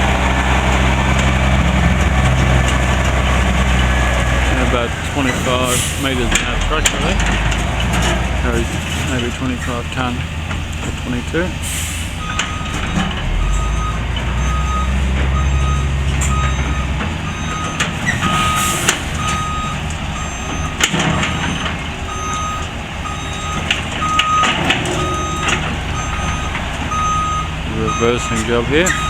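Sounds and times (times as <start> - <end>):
diesel engine rumble: 0.0 - 29.0
truck back-up alarm beeping: 0.0 - 29.0.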